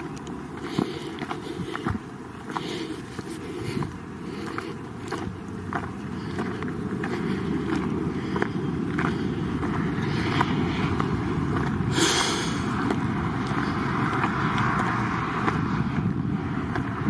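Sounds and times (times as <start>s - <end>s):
footsteps on gravel: 0.0s - 17.0s
wind rumble on microphone: 0.0s - 17.0s.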